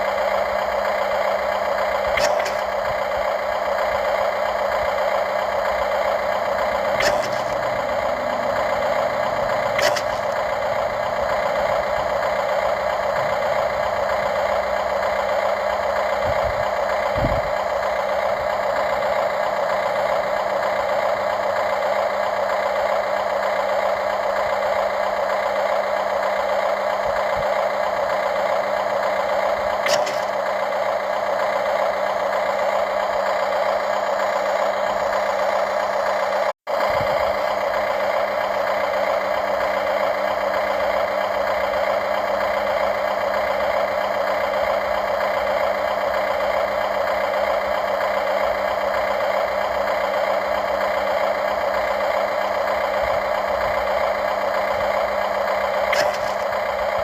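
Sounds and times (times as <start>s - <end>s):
model excavator motor whine: 0.0s - 57.0s.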